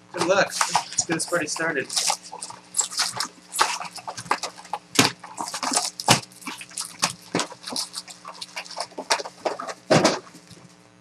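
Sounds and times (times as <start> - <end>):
foil wrappers crinkling and ripping: 0.2 - 10.8.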